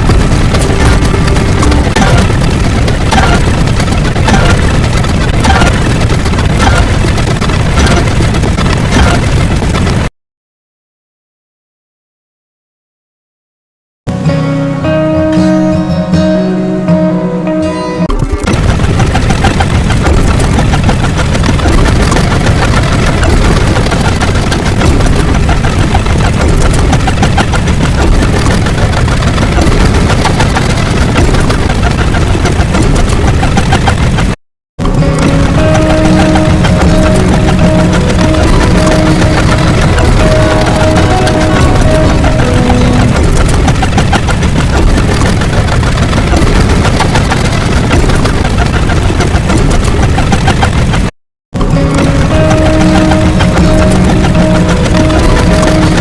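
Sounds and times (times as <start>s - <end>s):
dense steady rumble: 0.0s - 10.1s, 18.4s - 56.0s
fine crackling clicks: 0.0s - 10.1s, 18.2s - 56.0s.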